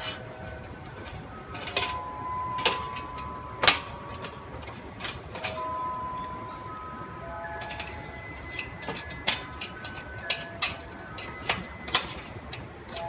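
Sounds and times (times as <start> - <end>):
distant public-address chime melody: 0.0 - 13.0
metal grill parts clinking: 0.0 - 13.0.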